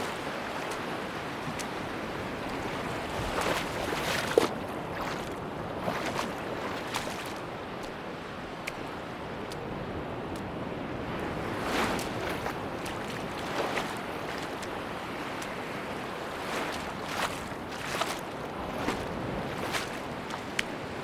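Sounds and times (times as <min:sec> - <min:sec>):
sea waves washing onto beach: 0:00.0 - 0:21.0.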